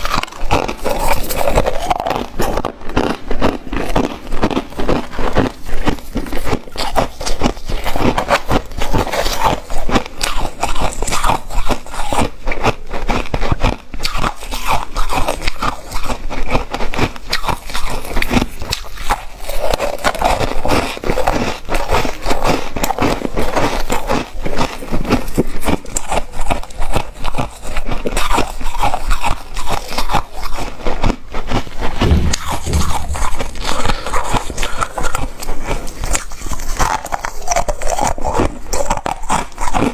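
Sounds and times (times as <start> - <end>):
chewing ice crunching: 0.0 - 39.9.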